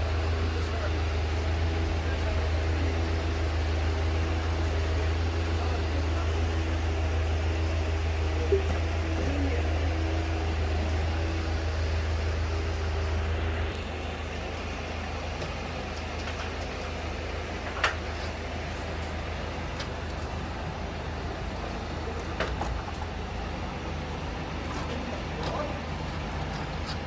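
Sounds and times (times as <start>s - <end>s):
truck engine humming: 0.0s - 27.0s.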